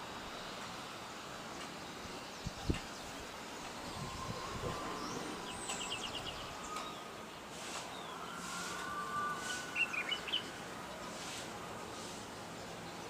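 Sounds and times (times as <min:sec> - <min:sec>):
steady background hum: 0:00.0 - 0:13.0
small birds chirping: 0:01.5 - 0:13.0.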